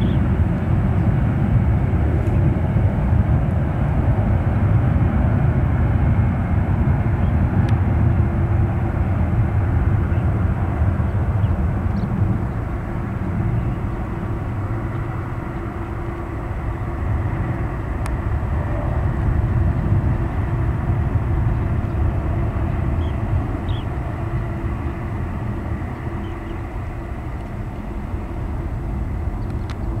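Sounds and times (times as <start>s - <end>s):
jet engines low rumble: 0.0s - 30.0s.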